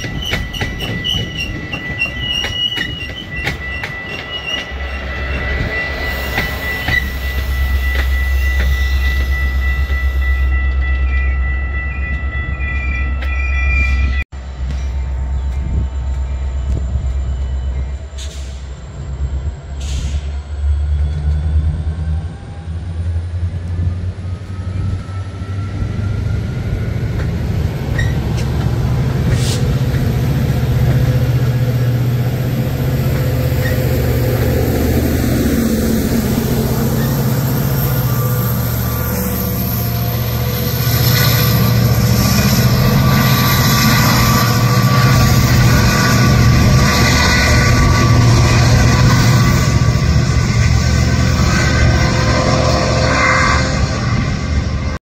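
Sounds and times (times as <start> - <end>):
diesel locomotive approaching: 0.0 - 55.0
train coaches rolling on rails: 0.0 - 55.0.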